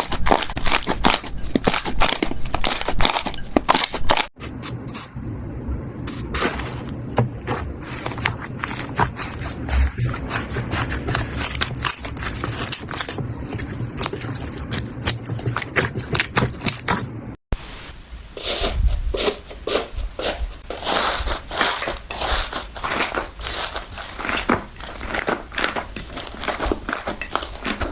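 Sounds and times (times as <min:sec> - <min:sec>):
slime crackling and squishing: 0:00.0 - 0:04.3, 0:06.1 - 0:17.2, 0:20.8 - 0:27.9.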